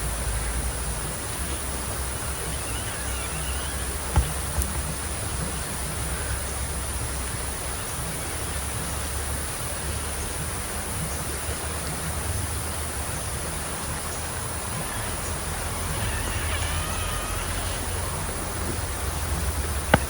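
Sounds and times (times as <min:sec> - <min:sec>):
heavy rain: 0:00.0 - 0:20.0
rushing river water: 0:00.0 - 0:20.0.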